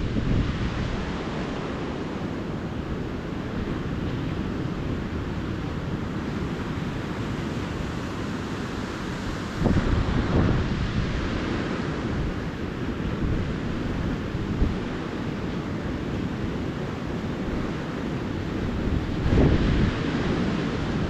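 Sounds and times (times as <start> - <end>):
ocean surf washing onto beach: 0.0 - 21.0
wind rumble on microphone: 0.0 - 21.0.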